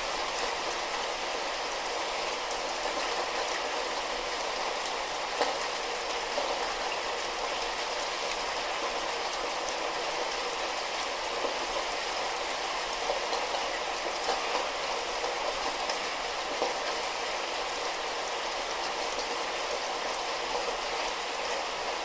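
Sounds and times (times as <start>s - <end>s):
light rain patter: 0.0s - 22.0s.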